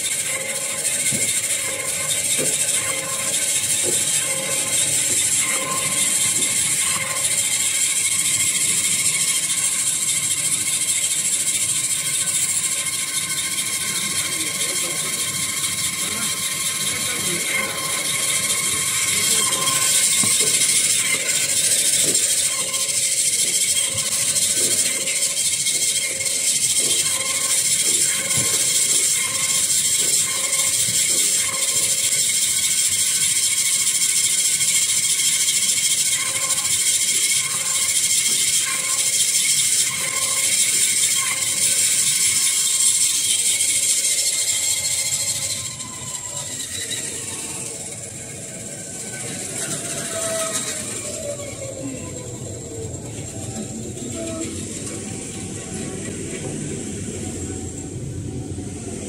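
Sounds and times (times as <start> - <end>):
band saw cutting paper rolls: 0.0 - 57.8.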